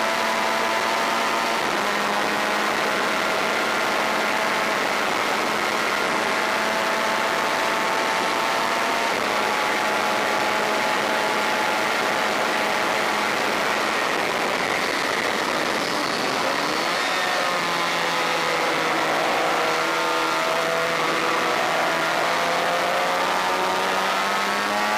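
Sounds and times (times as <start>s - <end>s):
motorcycle engine pulling hard: 0.0s - 24.9s.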